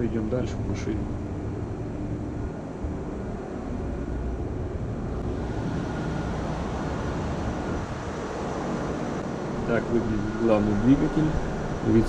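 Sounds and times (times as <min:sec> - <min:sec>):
faint machinery whine: 0:00.0 - 0:12.0
low machinery rumble: 0:00.0 - 0:12.0.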